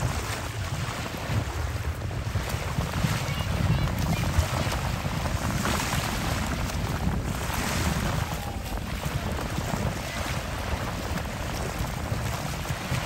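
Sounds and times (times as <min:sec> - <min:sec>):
small waves washing ashore: 0:00.0 - 0:13.0
wind rumbling on microphone: 0:00.0 - 0:13.0.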